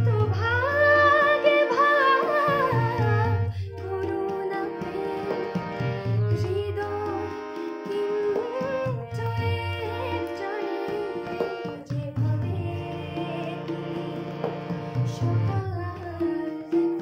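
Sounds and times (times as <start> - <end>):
tabla strokes: 0.0 - 17.0
woman singing: 0.0 - 17.0.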